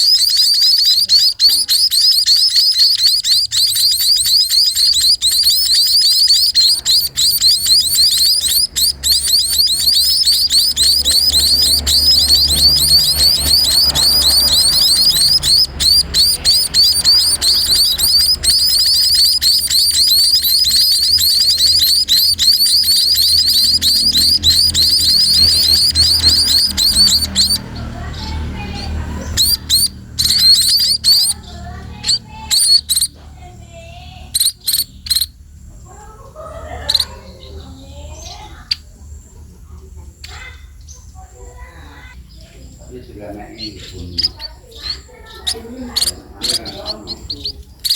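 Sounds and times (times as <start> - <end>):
young sparrow begging chirps: 0.0 - 39.4, 40.2 - 47.9.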